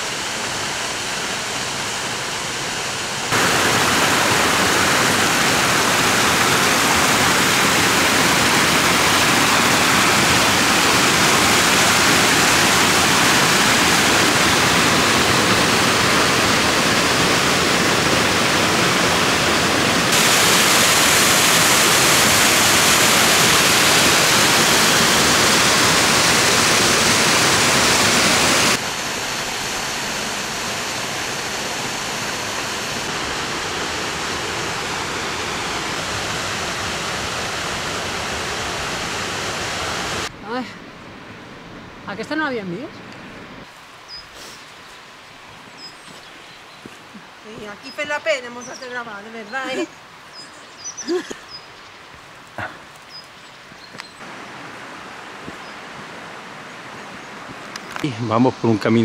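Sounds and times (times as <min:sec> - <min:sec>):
waterfall rushing: 0:00.0 - 0:40.7, 0:43.4 - 0:59.0.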